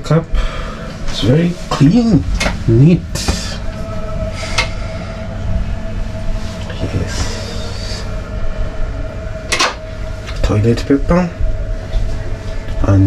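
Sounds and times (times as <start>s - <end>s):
train carriage rumble and hum: 0.0s - 13.0s.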